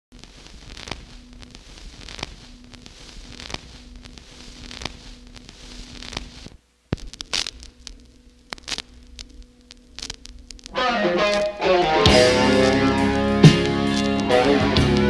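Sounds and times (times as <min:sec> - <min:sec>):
vinyl record hiss and crackle: 0:00.0 - 0:15.0
sharp record clicks: 0:00.1 - 0:15.0.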